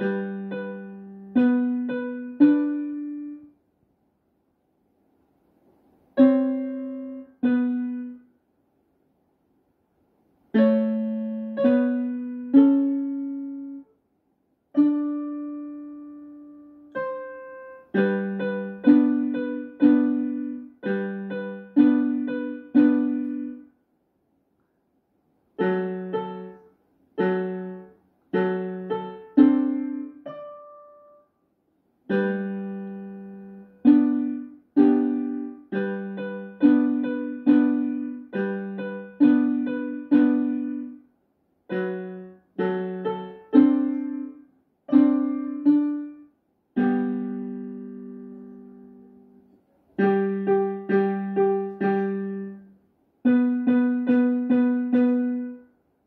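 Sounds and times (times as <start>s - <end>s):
electronic keyboard piano melody: 0.0s - 3.5s, 6.2s - 8.2s, 10.5s - 13.9s, 14.8s - 23.7s, 25.6s - 31.3s, 32.1s - 41.0s, 41.7s - 49.4s, 50.0s - 55.7s.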